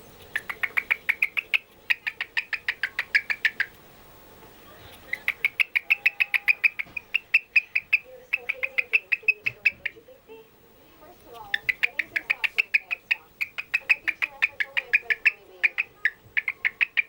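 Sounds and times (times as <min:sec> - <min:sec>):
pet bird chirping: 0:00.0 - 0:17.0.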